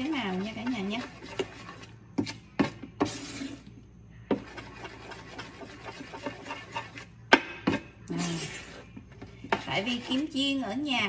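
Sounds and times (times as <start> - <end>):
spoon scraping pan: 0.0 - 7.2, 7.8 - 10.8
spoon stirring thick batter: 0.0 - 10.9.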